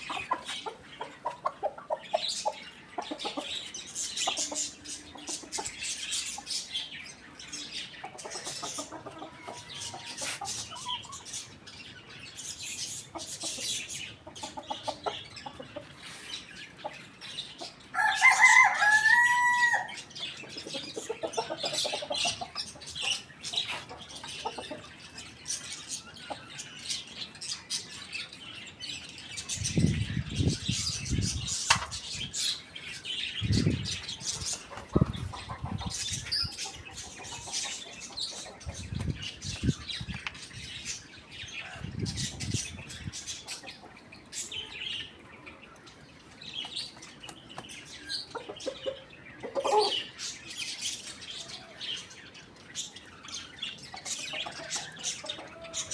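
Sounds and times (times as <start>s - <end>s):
chickens calling and chirping: 0.0s - 55.9s.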